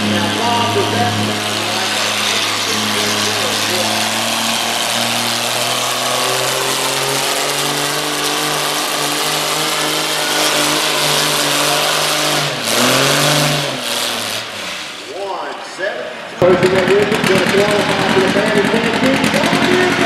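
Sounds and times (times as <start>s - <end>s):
tractor engine pulling under load: 0.0s - 15.3s, 16.4s - 20.0s.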